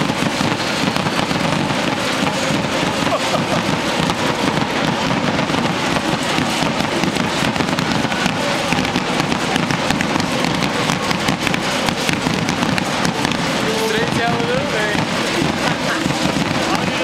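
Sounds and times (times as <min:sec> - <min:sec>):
firecrackers crackling: 0:00.0 - 0:17.0
stadium crowd din: 0:00.0 - 0:17.0.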